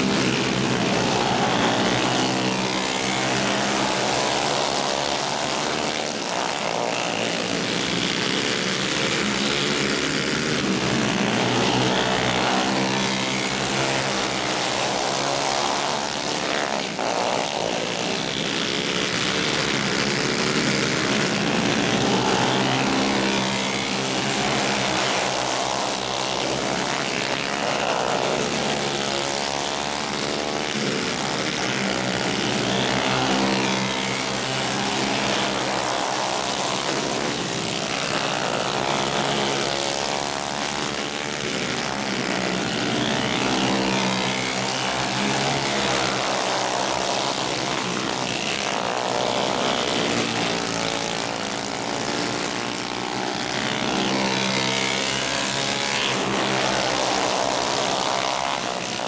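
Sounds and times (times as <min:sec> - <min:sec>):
racing kart engines revving: 0:00.0 - 0:59.0.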